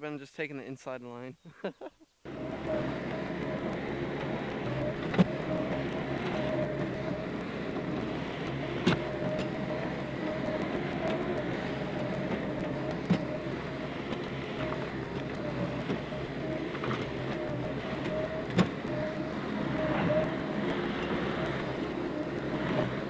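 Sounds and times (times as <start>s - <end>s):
diesel engine whining: 2.2s - 23.0s.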